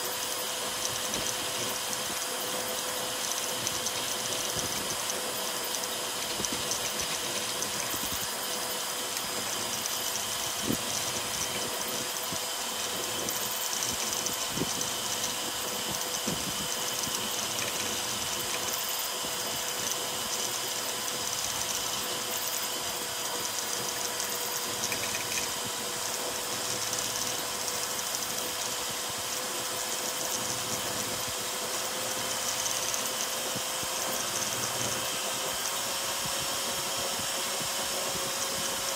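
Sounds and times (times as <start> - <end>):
cooling blower hiss and whine: 0.0 - 38.9
stepper motors whirring: 0.0 - 38.9.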